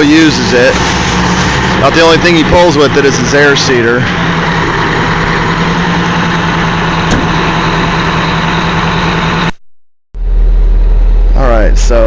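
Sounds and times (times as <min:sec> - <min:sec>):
tractor diesel engine running: 0:00.0 - 0:09.6, 0:10.2 - 0:12.0.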